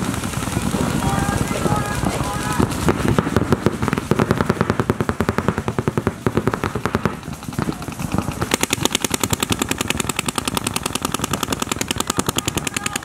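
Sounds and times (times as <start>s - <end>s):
paintball markers firing: 2.0s - 13.0s.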